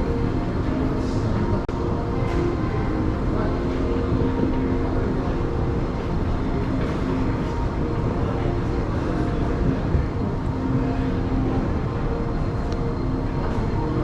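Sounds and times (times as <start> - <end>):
busy walkway hubbub: 0.0 - 14.0.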